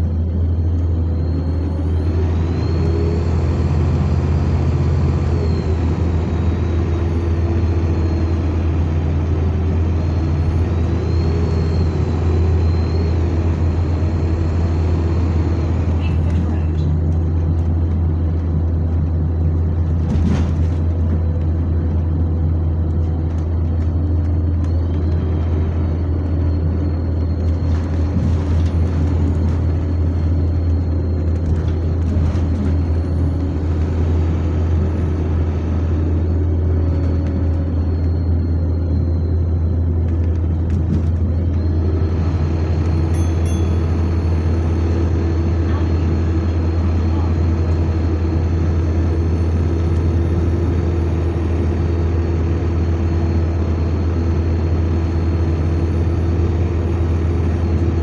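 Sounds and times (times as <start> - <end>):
bus engine and fan drone: 0.0 - 58.0.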